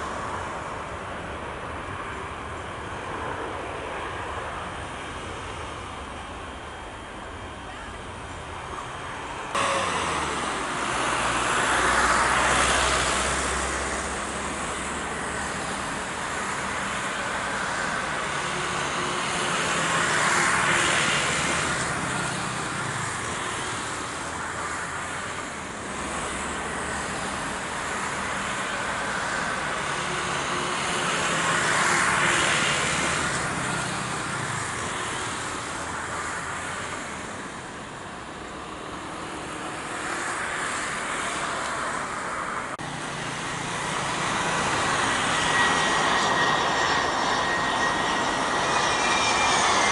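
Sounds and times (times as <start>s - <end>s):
faint jet aircraft engine: 0.0s - 49.9s
passing vehicles rumbling: 0.0s - 49.9s.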